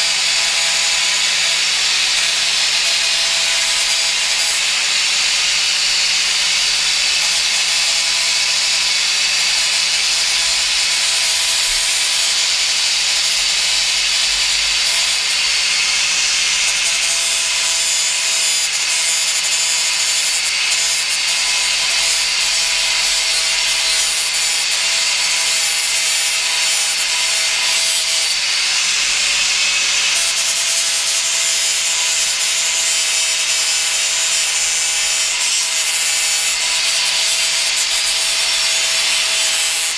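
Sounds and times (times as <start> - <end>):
angle grinder on steel pipe: 0.0 - 39.9.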